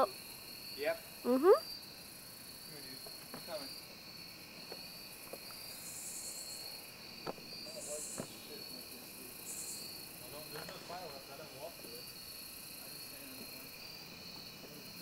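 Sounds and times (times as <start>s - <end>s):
insect buzzes: 0.0s - 15.0s
insects chirping: 0.0s - 15.0s.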